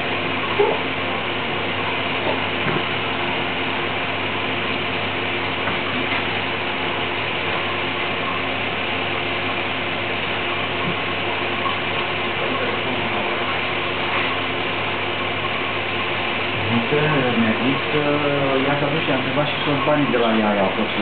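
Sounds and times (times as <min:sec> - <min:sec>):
machine whirring hum: 0:00.0 - 0:21.0.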